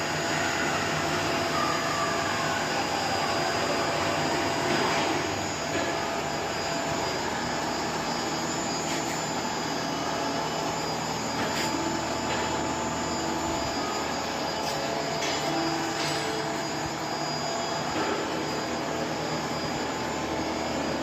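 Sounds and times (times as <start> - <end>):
electric machine whine and hum: 0.0 - 21.0.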